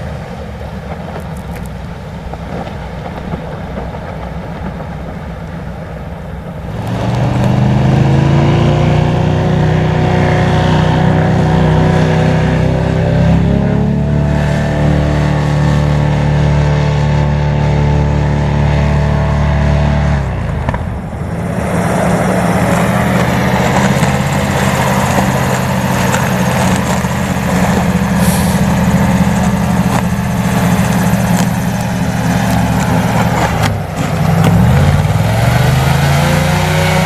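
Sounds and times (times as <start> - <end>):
airboat engine and propeller: 0.0 - 37.0.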